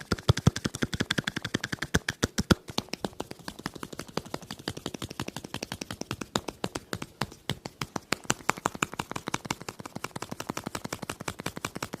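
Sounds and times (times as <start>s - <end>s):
rapid sharp taps: 0.0s - 12.0s.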